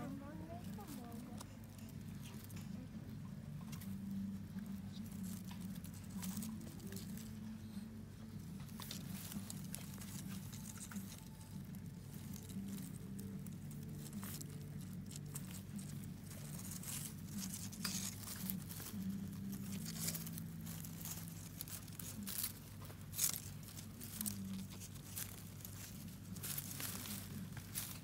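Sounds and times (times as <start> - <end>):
dry leaf litter crackling: 0.0 - 28.0.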